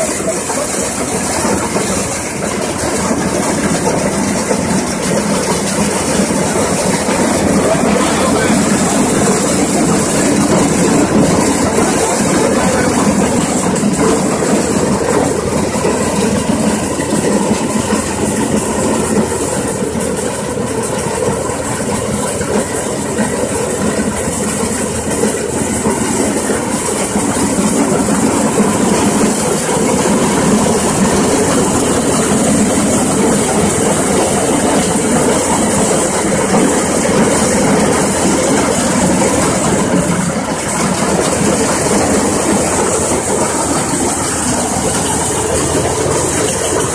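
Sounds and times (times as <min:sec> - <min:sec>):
thresher mechanical clatter and hum: 0:00.0 - 0:46.9.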